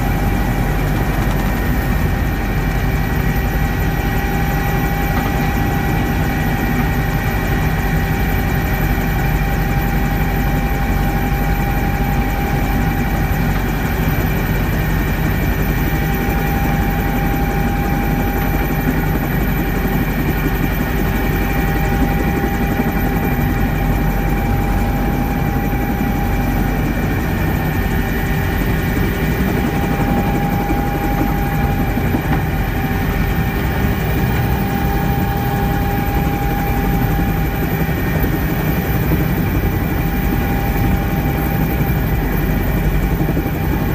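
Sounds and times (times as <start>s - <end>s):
helicopter cabin drone: 0.0s - 43.9s
high whine: 0.0s - 43.9s.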